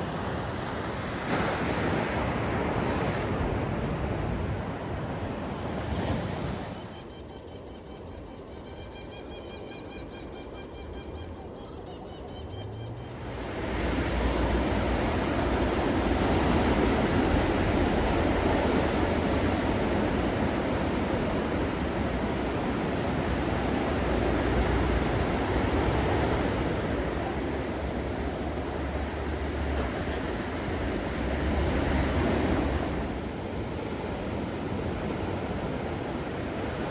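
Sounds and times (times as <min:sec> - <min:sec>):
ocean surf washing on beach: 0:00.0 - 0:07.1, 0:13.0 - 0:36.9.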